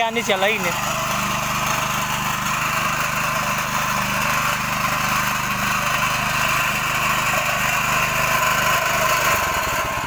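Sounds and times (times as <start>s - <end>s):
plough cutting through dry soil: 0.0s - 10.0s
small engine running under load: 0.0s - 10.0s.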